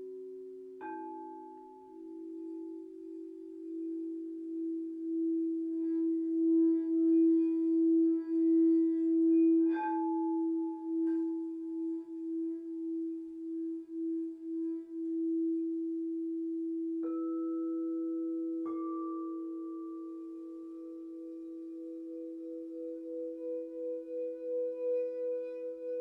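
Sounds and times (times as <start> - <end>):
low singing bowl tone: 0.0 - 26.0.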